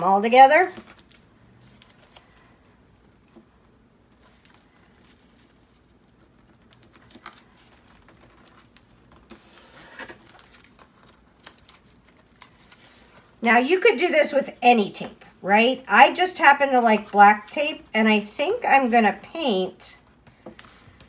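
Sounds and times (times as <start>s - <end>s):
paper and tape rustling: 0.5s - 15.4s, 16.0s - 21.0s.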